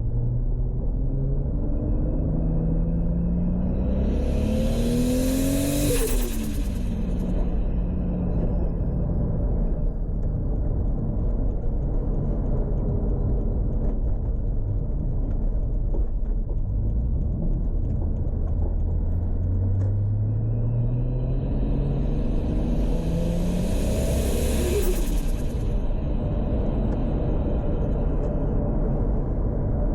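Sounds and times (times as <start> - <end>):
car engine rumbling: 0.0 - 29.9.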